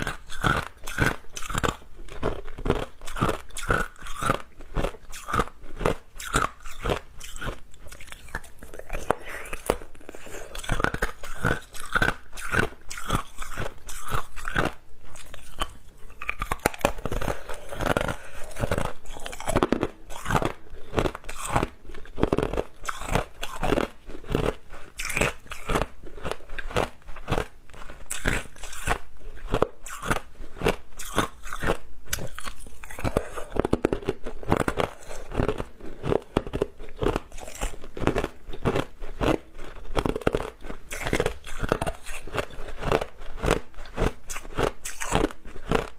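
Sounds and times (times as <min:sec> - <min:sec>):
ice being chewed: 0:00.0 - 0:45.9.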